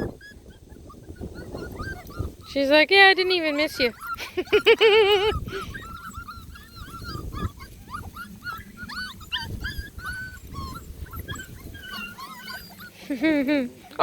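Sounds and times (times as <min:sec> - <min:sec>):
puppies whimpering and yipping: 0:00.0 - 0:14.0.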